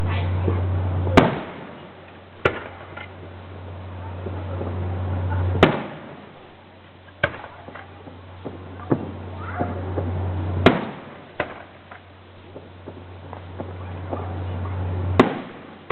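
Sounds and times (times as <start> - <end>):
fireworks bangs: 0.0 - 15.9
fireworks crackles: 0.0 - 15.9
steady low hum: 0.0 - 15.9.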